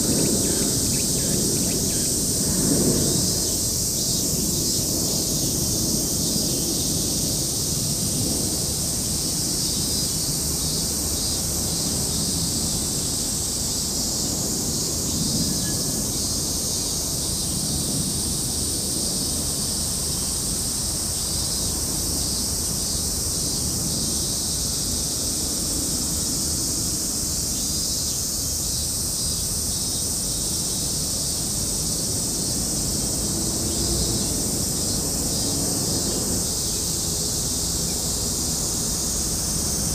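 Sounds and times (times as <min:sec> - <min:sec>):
steady high-pitched hiss: 0:00.0 - 0:39.9
wind rumbling on microphone: 0:00.0 - 0:39.9.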